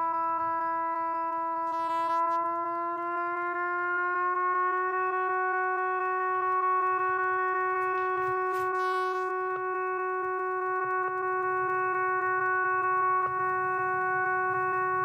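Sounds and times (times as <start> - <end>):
long held horn-like note: 0.0 - 15.0.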